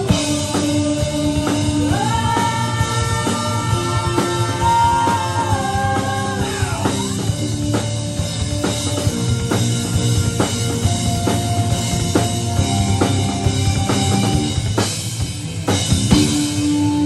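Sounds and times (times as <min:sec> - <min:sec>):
bass: 0:00.0 - 0:17.0
live rock band: 0:00.0 - 0:17.0.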